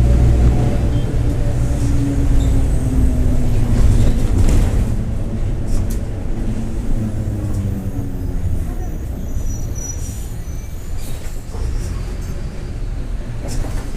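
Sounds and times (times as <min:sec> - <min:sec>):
diesel bus engine drone: 0:00.0 - 0:13.9.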